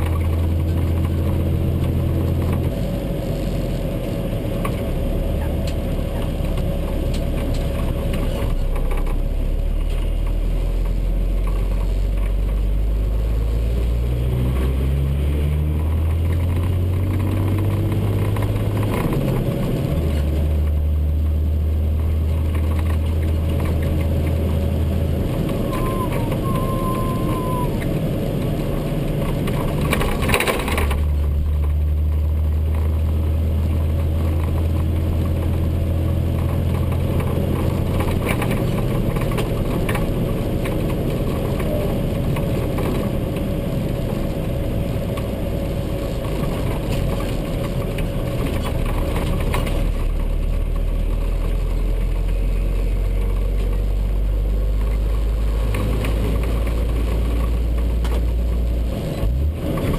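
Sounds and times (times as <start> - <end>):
road noise: 0.0 - 59.9
truck engine droning: 0.0 - 59.9.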